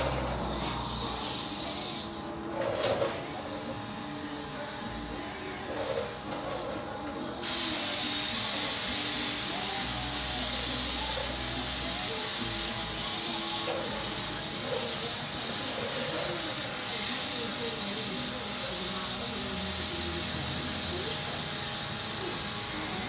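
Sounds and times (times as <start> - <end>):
spray gun hissing: 0.0 - 6.6, 7.4 - 23.0.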